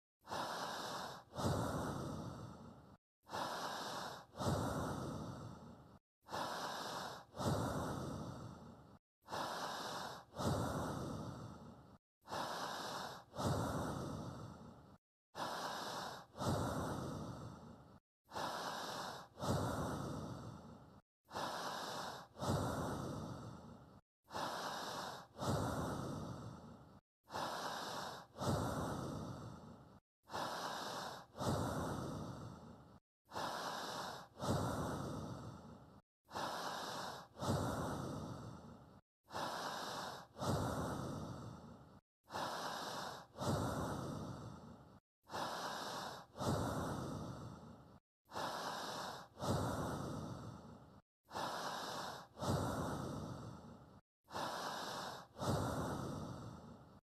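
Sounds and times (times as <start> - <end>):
slow human breathing: 0.2 - 57.0.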